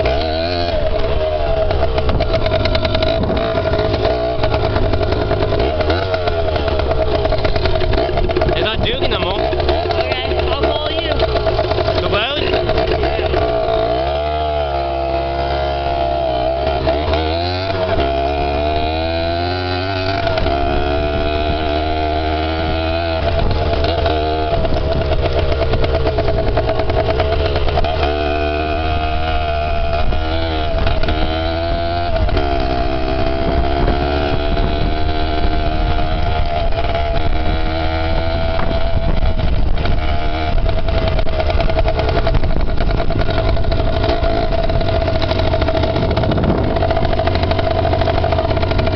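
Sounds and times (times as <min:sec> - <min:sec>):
small vehicle engine revving: 0:00.0 - 0:48.9.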